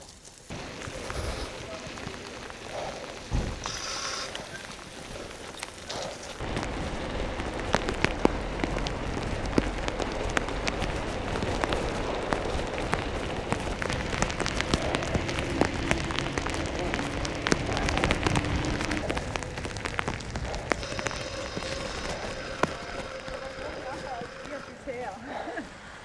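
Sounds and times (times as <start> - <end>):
crackling rustling with clicks: 0.0 - 25.7.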